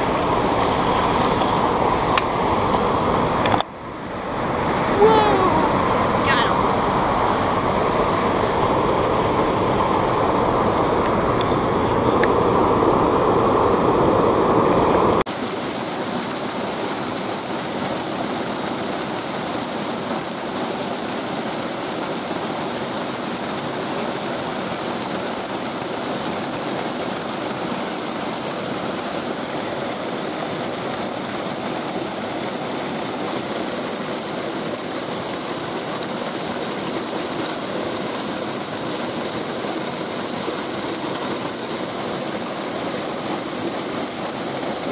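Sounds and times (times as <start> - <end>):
creek water rushing over falls: 0.0 - 44.9.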